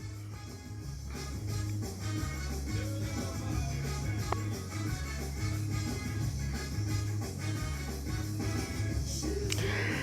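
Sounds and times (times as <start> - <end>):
song with bass and guitar: 0.0 - 10.0.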